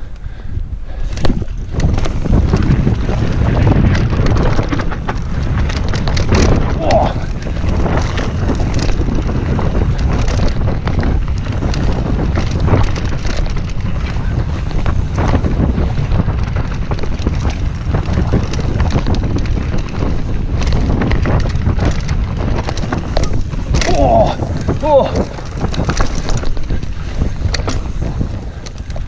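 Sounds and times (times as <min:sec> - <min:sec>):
tyres rumbling on dirt trail: 0:00.0 - 0:29.0
wind buffeting microphone: 0:00.0 - 0:29.0
bike knocks and rattles: 0:01.0 - 0:29.0.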